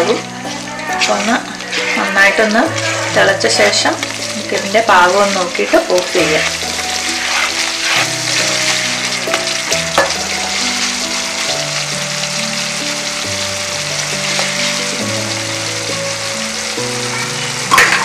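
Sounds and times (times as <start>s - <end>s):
background music with slow held notes: 0.0s - 18.0s
curry bubbling and sizzling: 0.0s - 18.0s.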